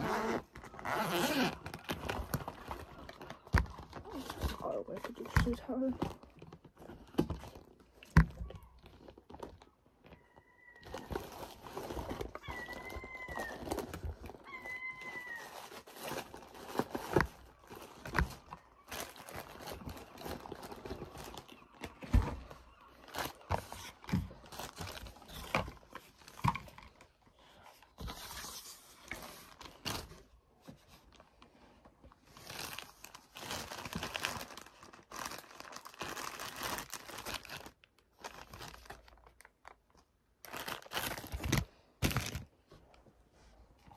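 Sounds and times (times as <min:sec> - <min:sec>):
plastic packaging crinkling: 0:00.0 - 0:27.2, 0:27.9 - 0:31.3, 0:32.1 - 0:42.6.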